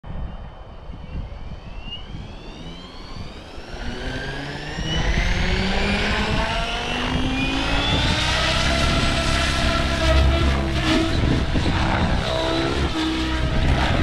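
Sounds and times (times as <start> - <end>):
wind buffeting microphone: 0.0 - 14.0
helicopter motor and rotor whine: 0.1 - 14.0.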